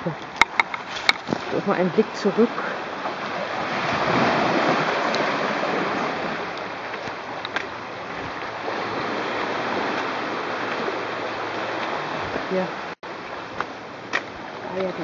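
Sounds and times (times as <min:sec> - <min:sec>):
small waves on rocky shore: 0:00.0 - 0:15.0.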